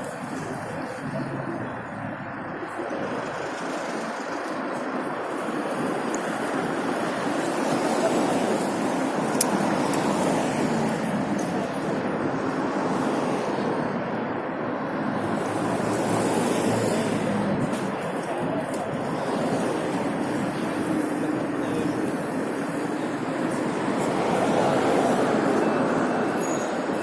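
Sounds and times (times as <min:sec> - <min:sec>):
wind and road noise: 0:00.0 - 0:27.0.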